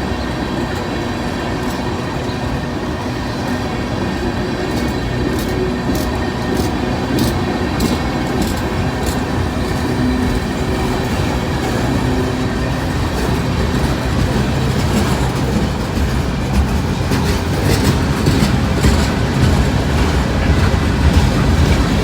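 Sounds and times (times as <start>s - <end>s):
train rumble: 0.0s - 22.0s
train wheels clicking over rail joints: 0.0s - 22.0s.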